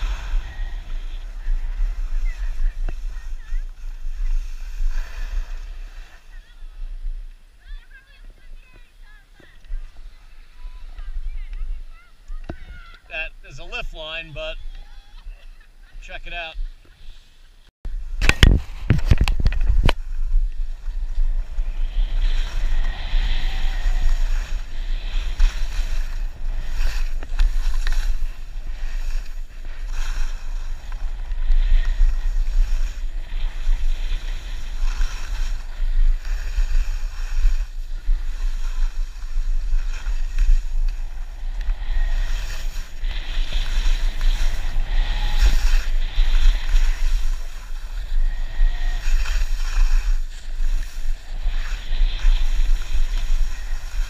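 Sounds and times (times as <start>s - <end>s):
wind buffeting microphone: 0.0s - 13.6s, 17.9s - 54.0s
skis scraping on snow: 0.0s - 54.0s.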